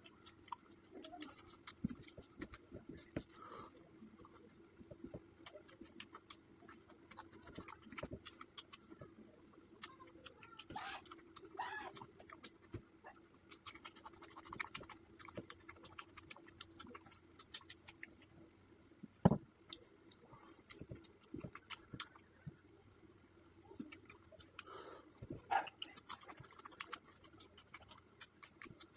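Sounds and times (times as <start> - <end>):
eating sounds: 0.0 - 18.8, 19.5 - 28.9
faint steady hum: 0.0 - 28.9.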